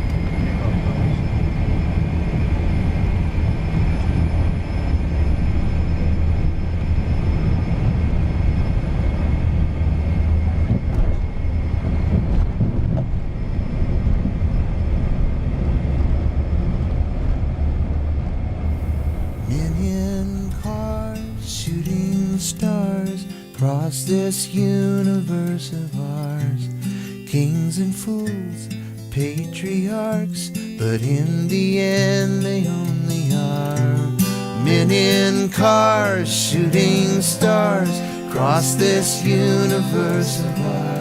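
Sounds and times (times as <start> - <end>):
jet engines running: 0.0 - 26.4, 27.1 - 41.0.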